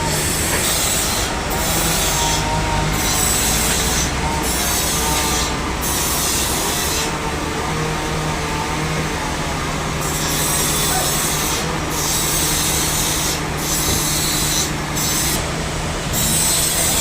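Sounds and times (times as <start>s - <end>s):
sawmill saw cutting log: 0.0s - 17.0s.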